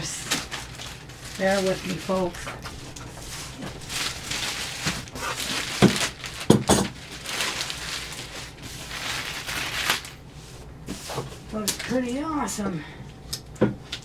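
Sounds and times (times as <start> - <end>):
plastic and cardboard crinkling: 0.0 - 12.2.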